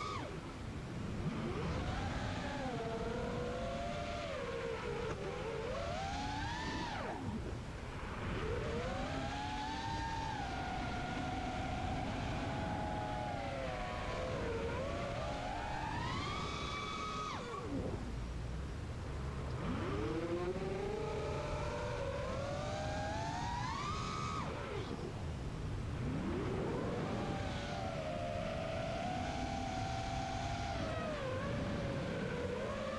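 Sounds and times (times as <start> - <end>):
drone motors whining: 0.0 - 32.9
wind rushing on microphone: 0.0 - 32.9.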